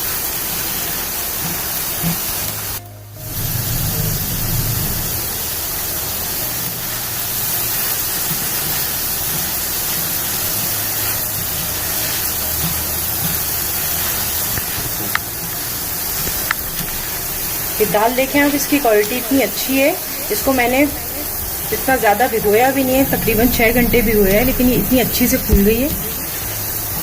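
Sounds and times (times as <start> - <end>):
lentils deep-frying in oil: 0.0 - 27.0.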